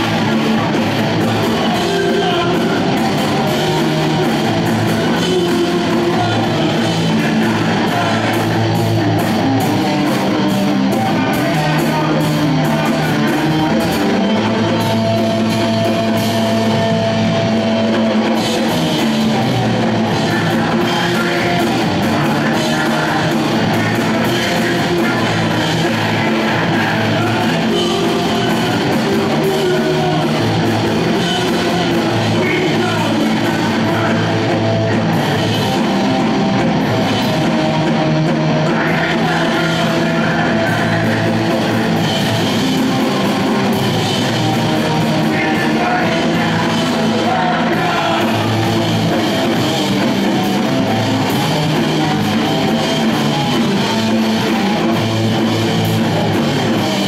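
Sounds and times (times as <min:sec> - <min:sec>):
shouted vocals: 0:00.0 - 0:16.8, 0:18.5 - 0:36.3, 0:37.4 - 0:57.0
distorted electric guitars: 0:00.0 - 0:57.0
pounding drums: 0:00.0 - 0:57.0.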